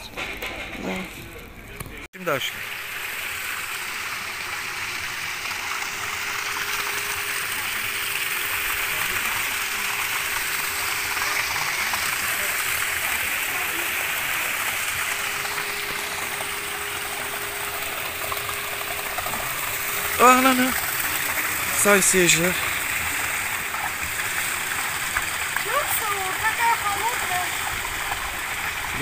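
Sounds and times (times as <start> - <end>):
fountain water splashing: 1.0 - 29.0.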